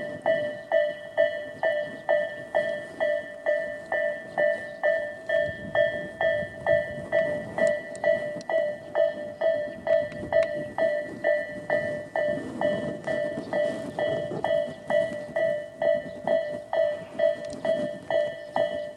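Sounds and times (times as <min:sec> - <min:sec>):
level crossing warning bell dinging: 0:00.0 - 0:18.9.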